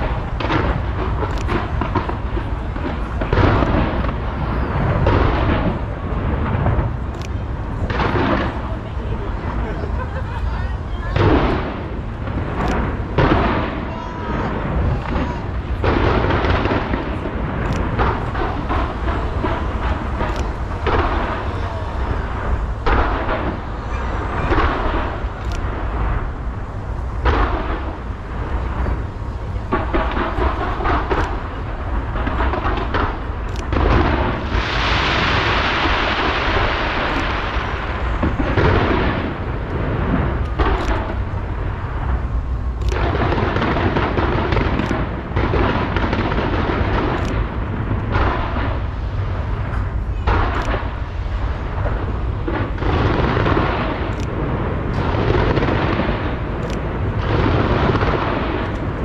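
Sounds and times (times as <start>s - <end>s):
fireworks booming and banging: 0.0s - 59.0s
fireworks crackling hiss: 0.0s - 59.0s
steady low rumble: 0.0s - 59.0s.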